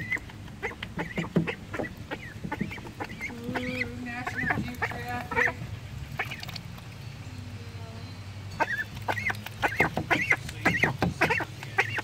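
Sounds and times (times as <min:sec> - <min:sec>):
young ducks peeping: 0:00.0 - 0:12.0.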